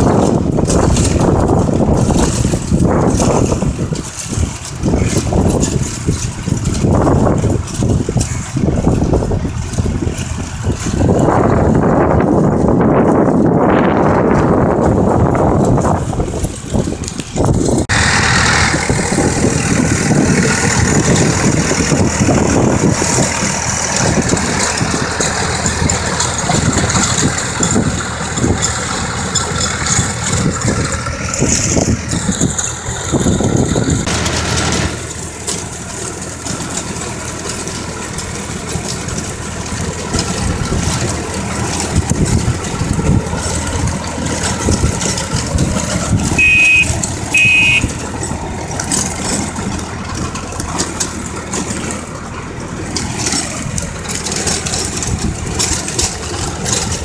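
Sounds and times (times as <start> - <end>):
farm vehicle engine running: 0.0 - 57.0.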